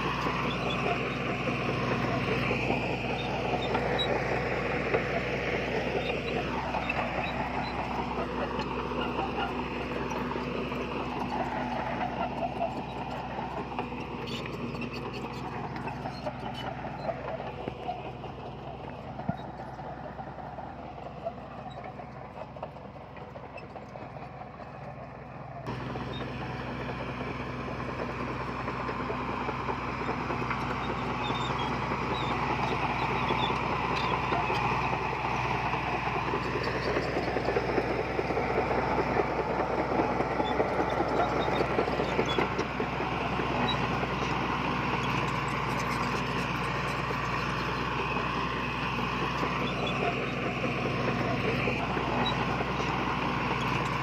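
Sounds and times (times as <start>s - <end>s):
heavy diesel machinery working: 0.0s - 54.0s.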